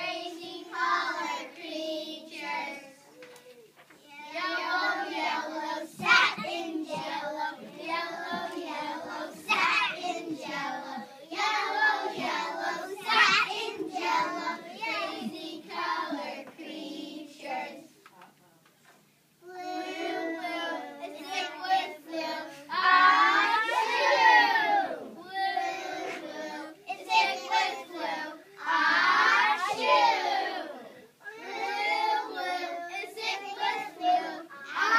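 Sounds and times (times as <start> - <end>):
children singing together: 0.0 - 3.4, 4.0 - 18.0, 19.4 - 34.9.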